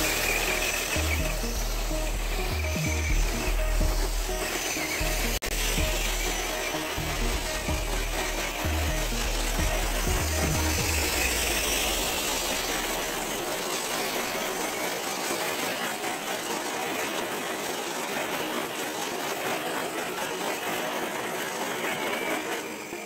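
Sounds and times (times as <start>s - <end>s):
small electric motor whirring: 0.0s - 23.0s.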